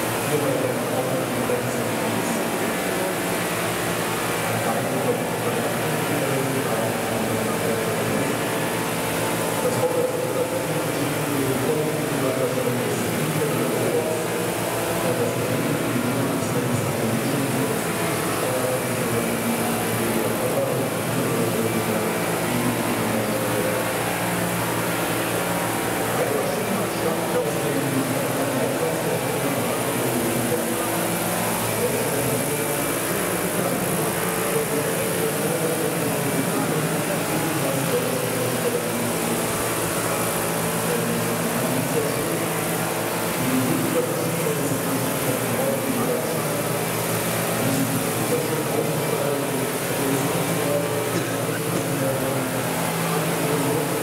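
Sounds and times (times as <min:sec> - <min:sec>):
model helicopter hovering: 0:00.0 - 0:54.0.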